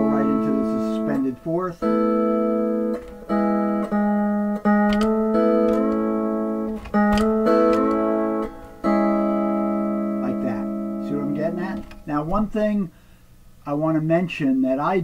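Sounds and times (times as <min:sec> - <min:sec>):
pedal steel guitar chords: 0:00.0 - 0:12.8.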